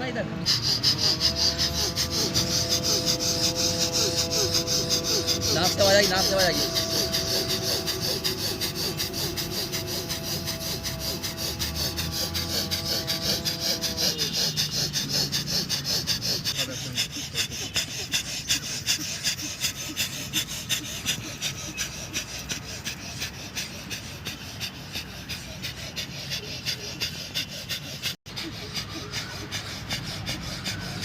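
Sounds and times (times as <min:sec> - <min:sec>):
rapid forceful nasal breathing: 0:00.1 - 0:31.0.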